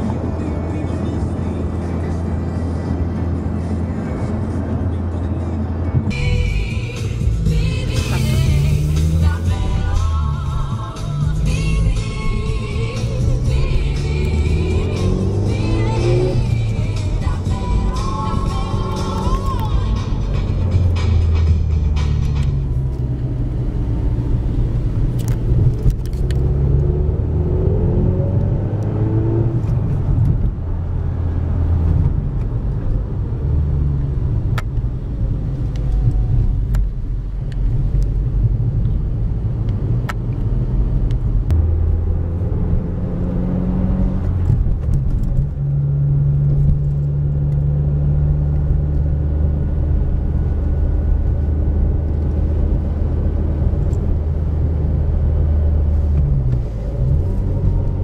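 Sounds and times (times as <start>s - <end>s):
car engine at low revs: 0.0s - 58.0s.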